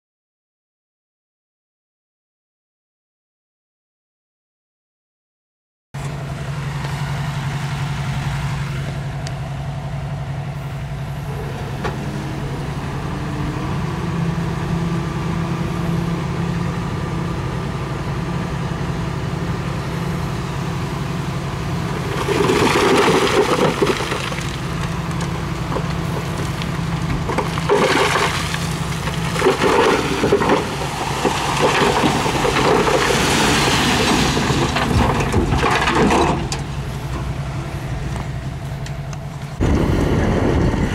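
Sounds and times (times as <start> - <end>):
diesel engine running: 6.0 - 40.9.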